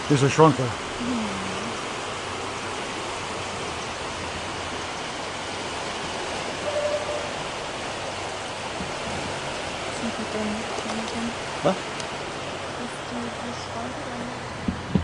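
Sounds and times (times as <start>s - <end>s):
water rushing through sluices: 0.0s - 15.0s.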